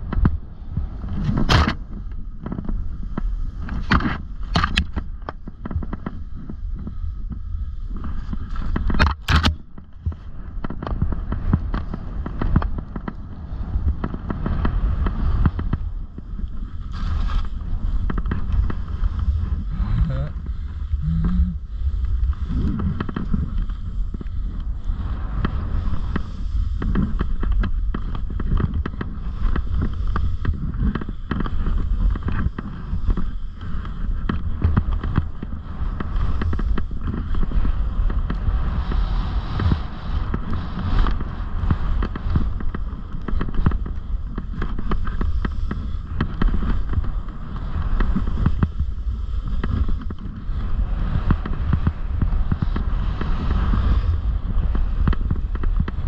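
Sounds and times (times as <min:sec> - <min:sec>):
snowboard scraping over snow: 0:00.0 - 0:56.0
wind rumbling on microphone: 0:00.0 - 0:56.0.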